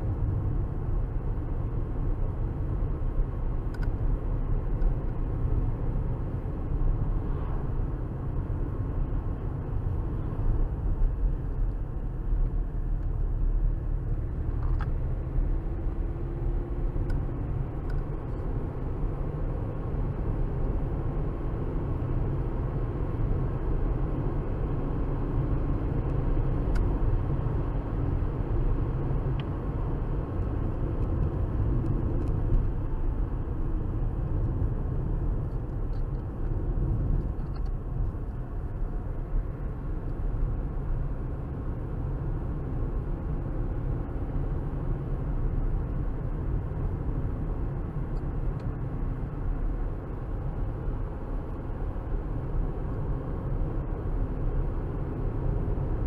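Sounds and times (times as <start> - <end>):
car road noise from inside: 0.0 - 56.0.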